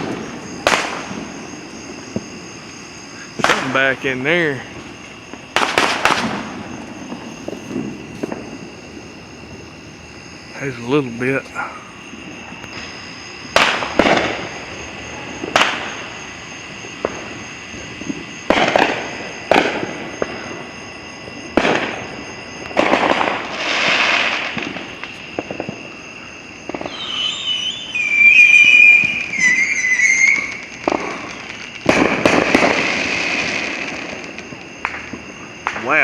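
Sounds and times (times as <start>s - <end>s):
fireworks bangs: 0.0s - 36.0s
fireworks crackle: 0.0s - 36.0s
fireworks whistles: 0.0s - 36.0s.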